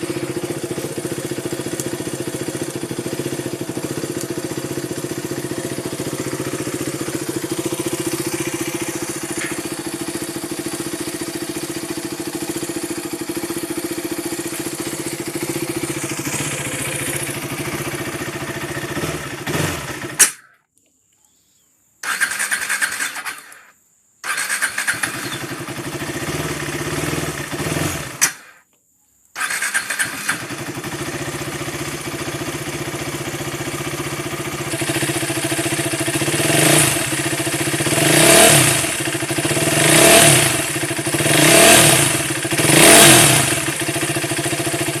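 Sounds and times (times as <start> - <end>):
motorcycle engine idling: 0.0 - 20.2, 24.7 - 28.2, 29.8 - 45.0
motorcycle engine revving: 0.0 - 20.4, 22.0 - 23.6, 24.2 - 28.4, 29.4 - 45.0.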